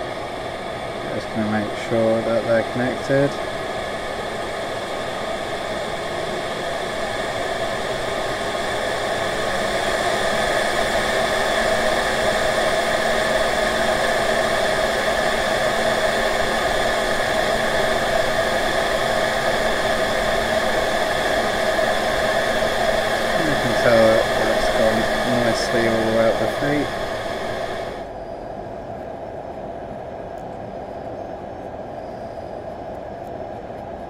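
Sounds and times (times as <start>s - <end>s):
blower rushing air: 0.0s - 34.0s.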